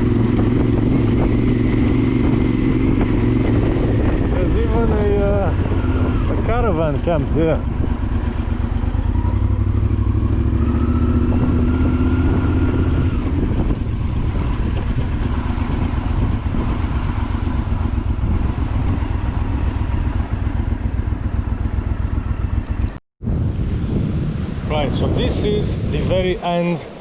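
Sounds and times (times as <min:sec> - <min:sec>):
motorcycle engine running: 0:00.0 - 0:24.7.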